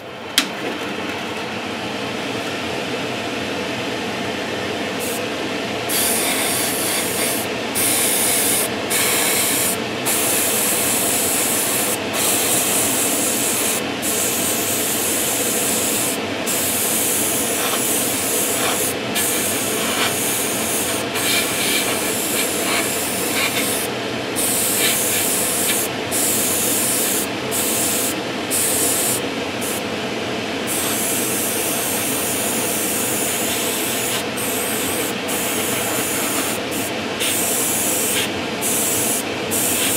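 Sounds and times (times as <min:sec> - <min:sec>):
airbrush spraying paint: 0:05.9 - 0:29.8, 0:30.7 - 0:39.9.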